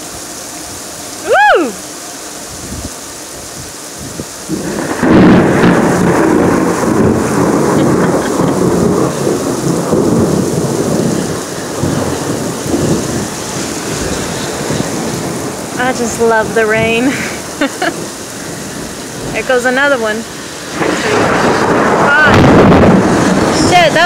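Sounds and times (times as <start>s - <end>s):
heavy rain: 0.0s - 24.0s
thunder rumbling: 2.5s - 24.0s.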